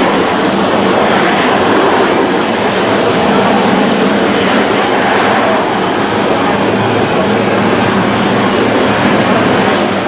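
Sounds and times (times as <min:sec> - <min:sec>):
loud steady jet engine noise: 0:00.0 - 0:10.0.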